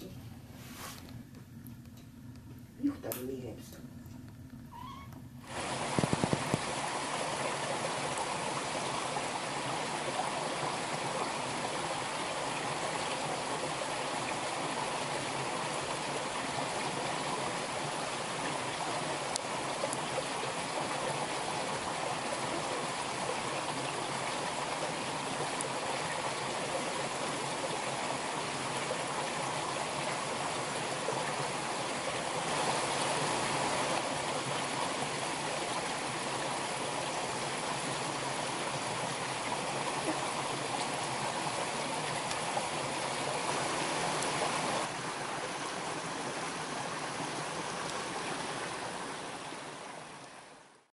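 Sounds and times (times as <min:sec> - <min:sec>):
flowing water rushing: 0:05.4 - 0:50.9.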